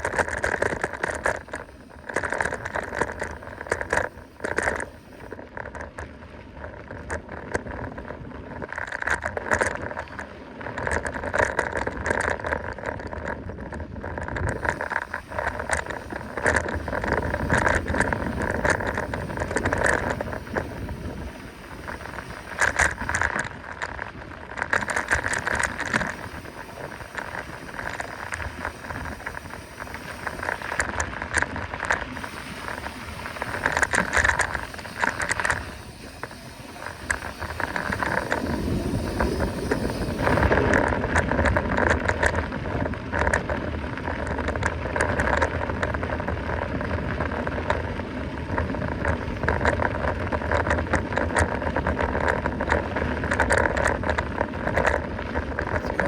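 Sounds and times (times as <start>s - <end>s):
bike rattling over bumps: 0.0s - 56.0s
bike tyre noise on dirt: 0.0s - 56.0s.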